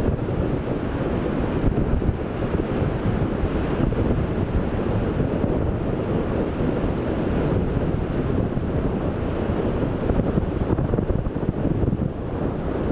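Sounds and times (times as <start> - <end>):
ocean surf: 0.0 - 12.9
wind buffeting microphone: 0.0 - 12.9.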